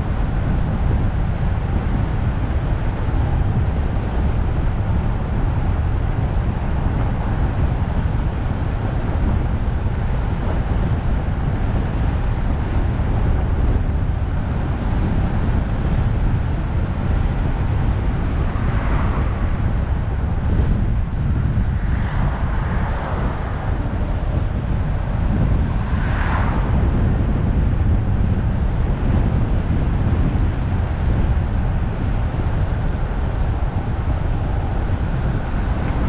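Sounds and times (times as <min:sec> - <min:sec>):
road and tyre rumble: 0:00.0 - 0:36.0
wind noise on microphone: 0:00.0 - 0:36.0.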